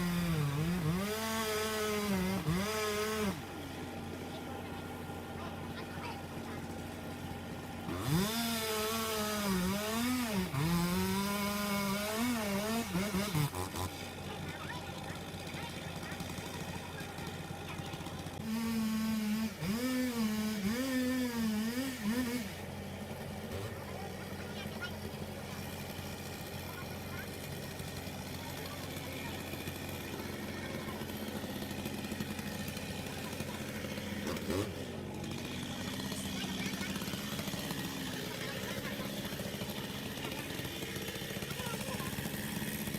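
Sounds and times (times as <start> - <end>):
chainsaw cutting: 0.0 - 42.9
machine engine droning: 0.0 - 42.9.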